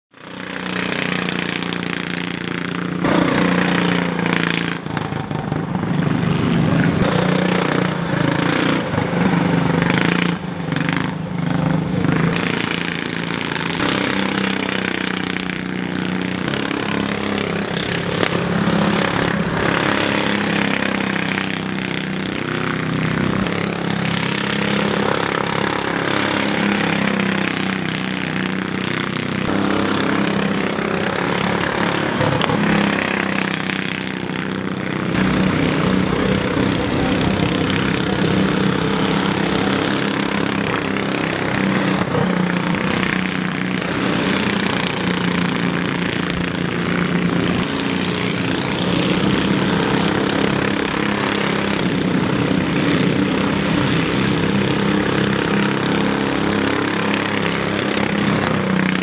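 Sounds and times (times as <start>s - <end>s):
race car engine running: 0.1s - 59.0s.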